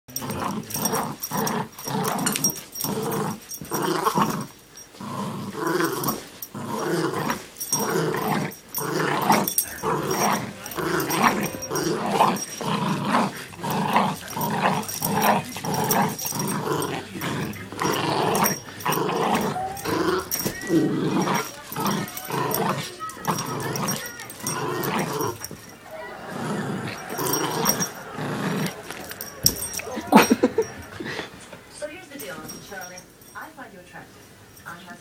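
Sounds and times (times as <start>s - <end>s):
small dog growling: 0.1s - 31.3s.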